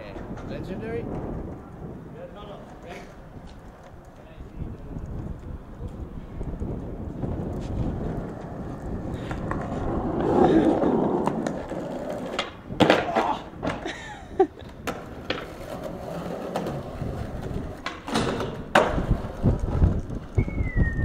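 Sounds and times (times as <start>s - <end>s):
skateboard wheels rolling on concrete: 0.0s - 21.0s
skateboard clacks and knocks: 2.6s - 20.5s.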